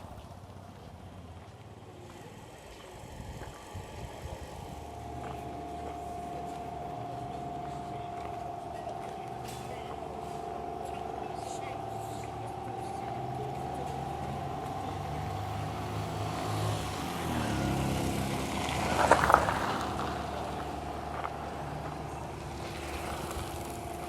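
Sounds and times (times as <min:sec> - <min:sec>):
vehicles passing with steady hum: 0:00.0 - 0:24.0.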